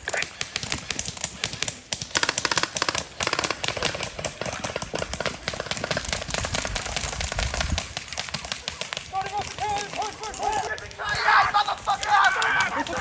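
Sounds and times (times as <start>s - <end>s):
airsoft guns firing: 0.0s - 13.0s.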